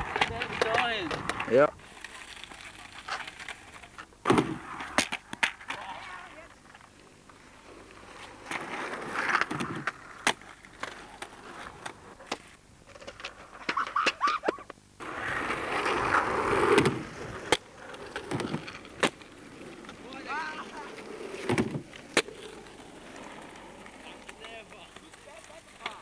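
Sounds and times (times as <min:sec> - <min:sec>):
skateboard clacking on ground: 0:00.0 - 0:26.0
skateboard wheels rolling on asphalt: 0:00.0 - 0:26.0.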